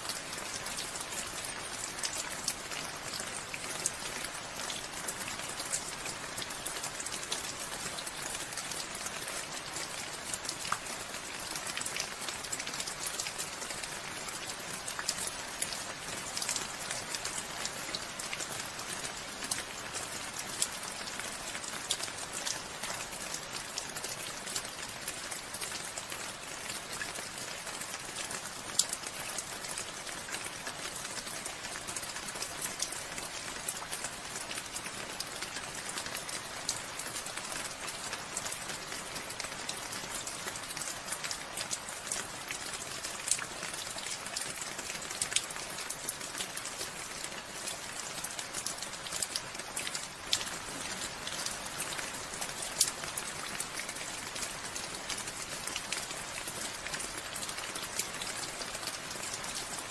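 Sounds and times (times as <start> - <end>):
raindrops pattering: 0.0 - 59.9.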